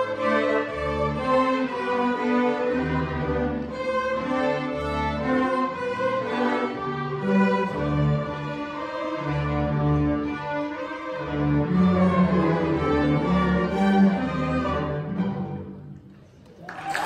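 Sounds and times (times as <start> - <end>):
violins playing melody: 0.0 - 16.1
cellos and double basses: 0.0 - 16.4.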